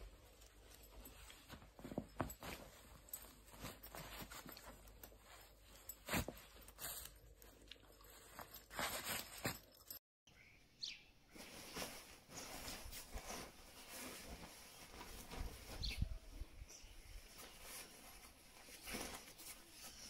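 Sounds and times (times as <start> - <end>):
sleeping bag rustling: 0.0 - 10.0, 11.3 - 20.0.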